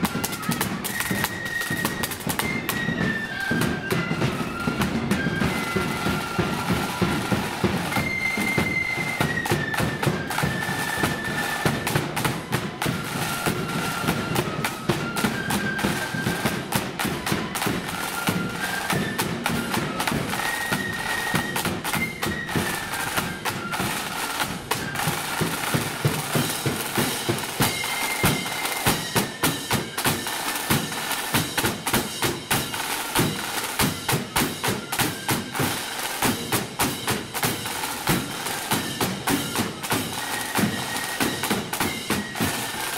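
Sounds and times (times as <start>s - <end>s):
flutes playing a marching melody: 0.0s - 42.9s
rapid side-drum strokes: 0.0s - 42.9s.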